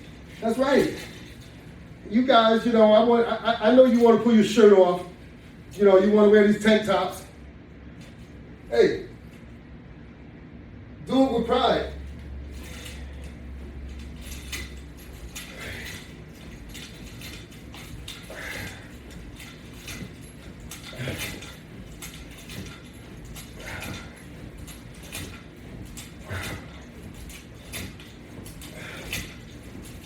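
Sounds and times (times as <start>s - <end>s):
exercise rig clicking and rattling: 0.0s - 7.2s, 11.1s - 30.0s.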